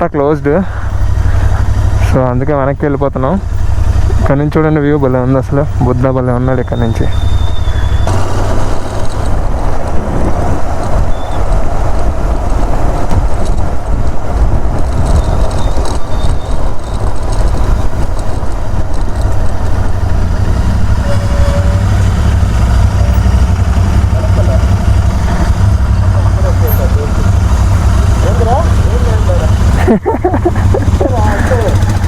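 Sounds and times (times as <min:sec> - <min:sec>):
motorcycle engine: 0:00.0 - 0:32.0
wind rumble on microphone: 0:05.6 - 0:32.0.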